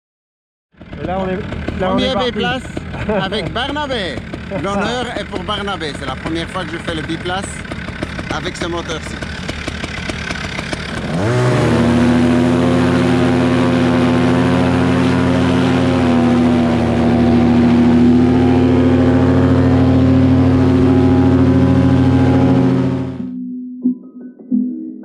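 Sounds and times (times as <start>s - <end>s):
paramotor engine and propeller revving: 0.8s - 23.3s.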